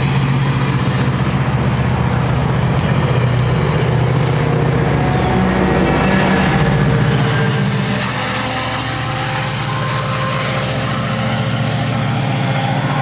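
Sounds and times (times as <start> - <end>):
diesel locomotive drone: 0.0 - 13.0
passenger train rolling past: 0.0 - 13.0.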